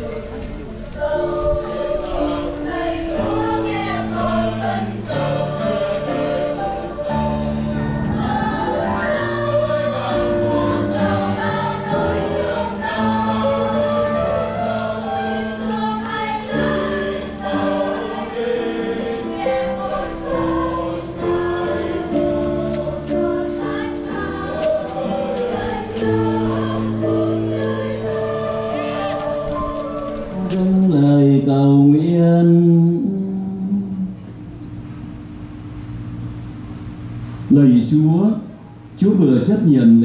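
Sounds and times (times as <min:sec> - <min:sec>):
choir singing a hymn: 0:00.0 - 0:35.2.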